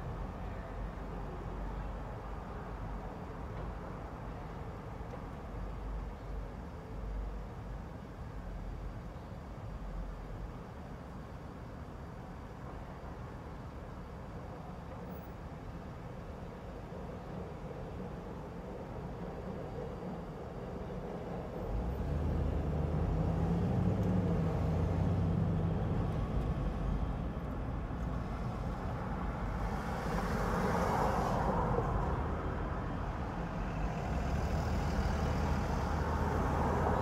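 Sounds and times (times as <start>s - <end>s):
city traffic hum: 0.0s - 37.0s.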